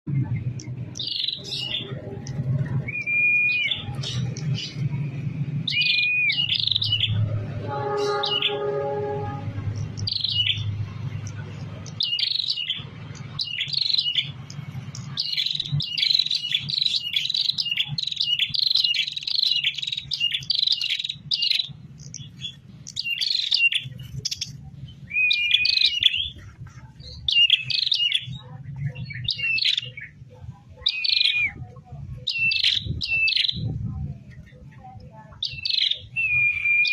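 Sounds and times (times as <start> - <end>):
bird singing high chirps: 0.1 - 36.9
steady pitched hum: 0.1 - 36.9.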